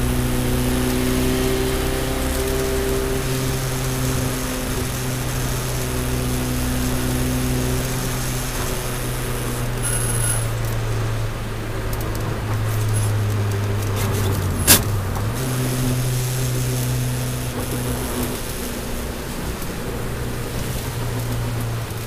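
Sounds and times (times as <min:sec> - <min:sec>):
car engine from inside cabin: 0:00.0 - 0:22.0
road and tyre noise: 0:00.0 - 0:22.0.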